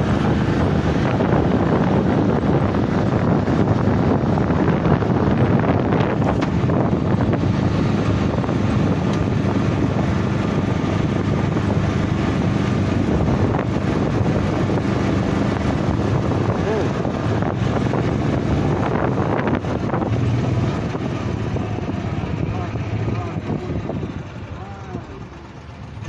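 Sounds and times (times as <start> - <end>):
cart motor hum: 0.0 - 26.0
road rumble: 0.0 - 26.0
wind rumbling on microphone: 0.0 - 26.0.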